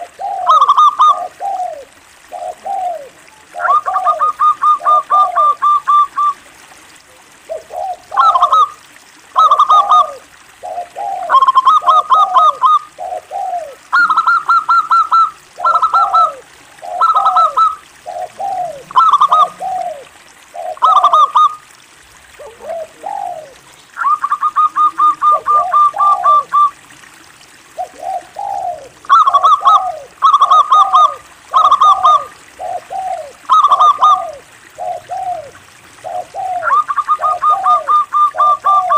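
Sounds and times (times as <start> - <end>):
dove cooing: 0.0 - 6.4, 7.0 - 21.6, 22.3 - 26.8, 27.8 - 38.9.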